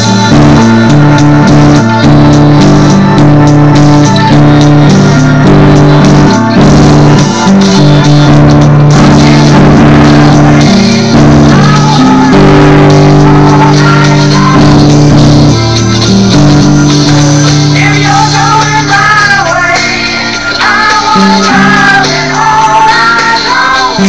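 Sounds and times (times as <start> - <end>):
loud music with sustained chords: 0.0 - 24.0.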